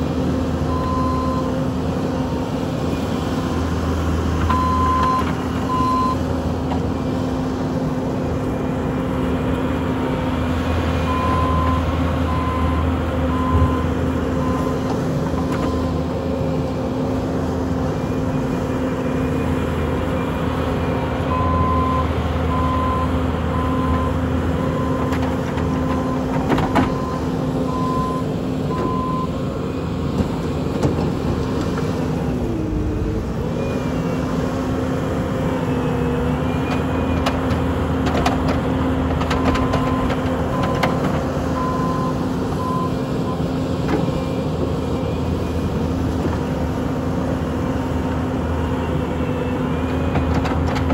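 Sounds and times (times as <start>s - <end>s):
loader diesel engine running: 0.0s - 50.9s.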